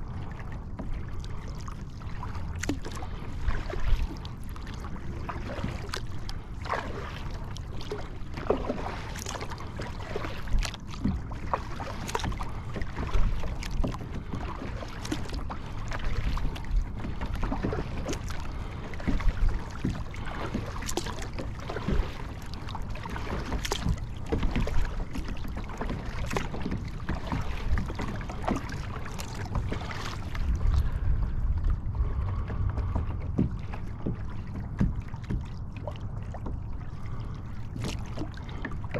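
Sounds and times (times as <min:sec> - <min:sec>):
water splashing against kayak: 0:00.0 - 0:38.9
wind rumble on microphone: 0:00.0 - 0:38.9.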